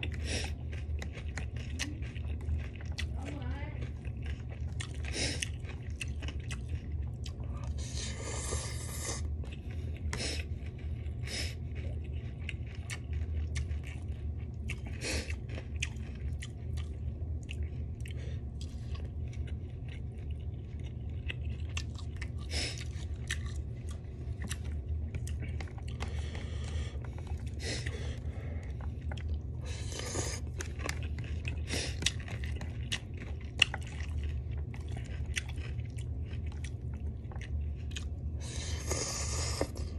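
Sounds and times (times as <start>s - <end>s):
person chewing and crunching food: 0.0s - 39.9s
steady low hum: 0.0s - 39.9s.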